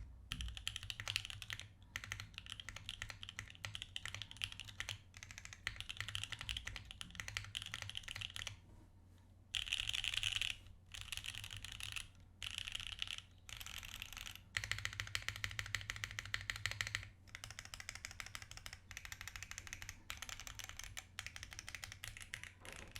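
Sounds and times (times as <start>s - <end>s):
mechanical keyboard typing: 0.3s - 8.6s, 9.6s - 22.9s.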